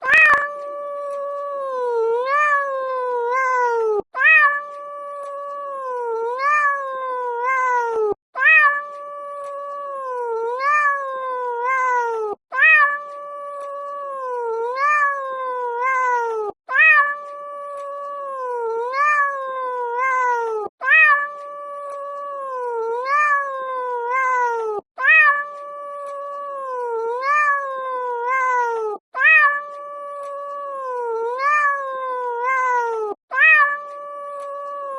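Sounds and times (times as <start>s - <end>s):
cat meowing: 0.0s - 34.9s.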